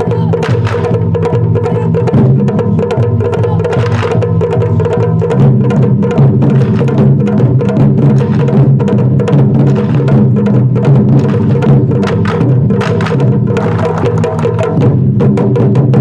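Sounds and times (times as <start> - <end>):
rapid taiko drumming: 0.0 - 16.0.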